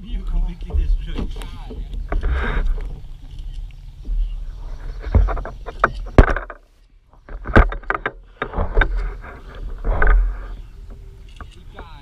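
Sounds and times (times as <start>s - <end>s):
knocks and bumps: 0.3s - 3.1s, 4.0s - 11.0s.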